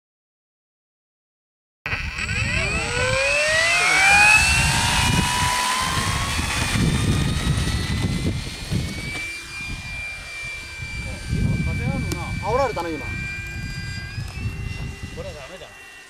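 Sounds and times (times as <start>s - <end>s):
low rumble: 1.9s - 15.6s
electric motor and propeller whining: 1.9s - 16.0s.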